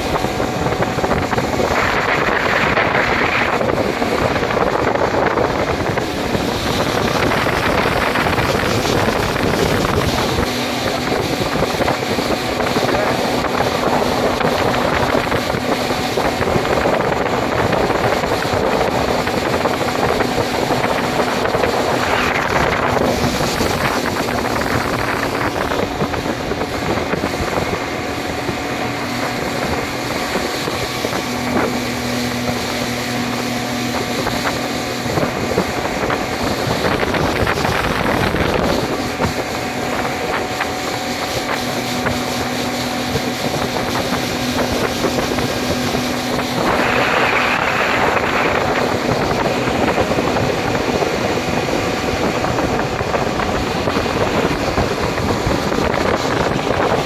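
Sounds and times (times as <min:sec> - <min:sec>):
speedboat motor running: 0:00.0 - 0:57.0
wind on microphone: 0:00.0 - 0:57.0.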